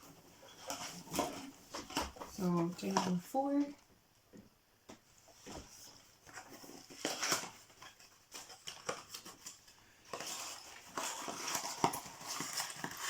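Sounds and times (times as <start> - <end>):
cardboard rustling and scraping: 0.0 - 3.3, 5.2 - 13.0.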